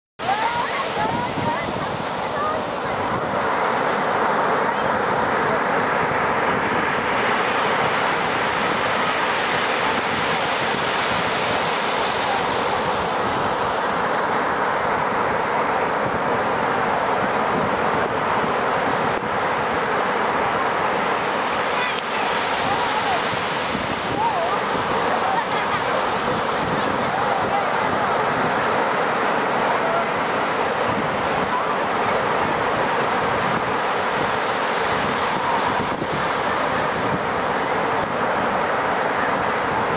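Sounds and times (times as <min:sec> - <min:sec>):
waves breaking on shore: 0:00.2 - 0:39.9.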